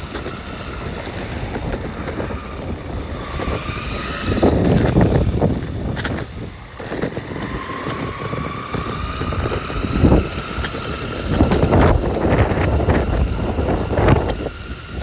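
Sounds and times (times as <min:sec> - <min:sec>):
electric motor whine: 0:00.0 - 0:15.0
wind buffeting microphone: 0:00.0 - 0:15.0.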